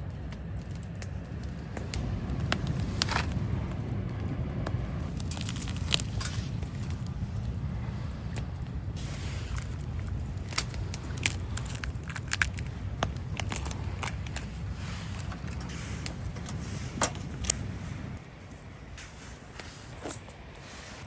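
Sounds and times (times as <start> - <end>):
wood fire crackling and popping: 0.0 - 20.6
steady low rumble: 0.0 - 21.0.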